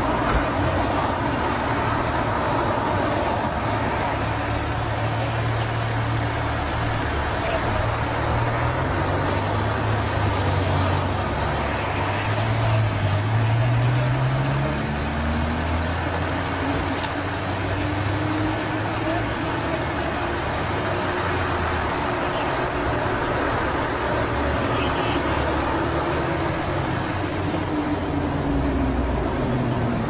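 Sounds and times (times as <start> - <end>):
steady noisy roar: 0.0 - 30.0.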